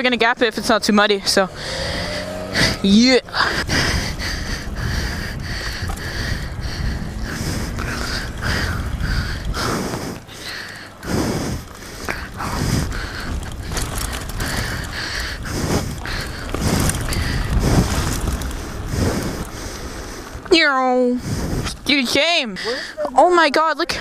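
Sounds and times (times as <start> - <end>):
tyres rolling over dirt: 0.0 - 24.0
wind buffeting microphone: 0.0 - 24.0.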